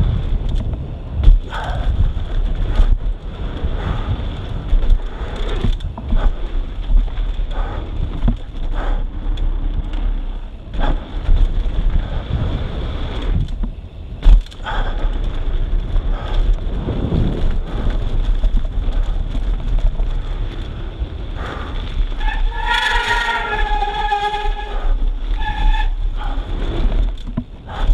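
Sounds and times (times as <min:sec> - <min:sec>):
bike rattling and knocking: 0:00.0 - 0:27.9
bike tyres rumbling on dirt: 0:00.0 - 0:27.9
wind buffeting microphone: 0:00.0 - 0:27.9.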